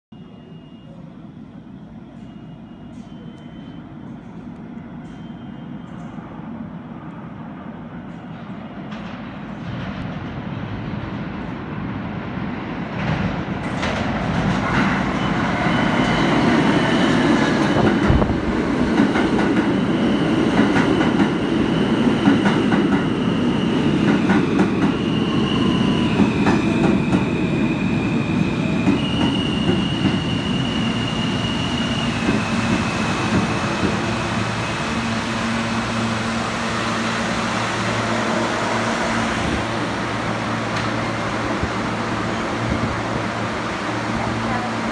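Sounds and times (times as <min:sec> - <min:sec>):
low hum of standing train: 0:00.1 - 0:44.9
train wheels rumbling on rails: 0:07.9 - 0:44.9.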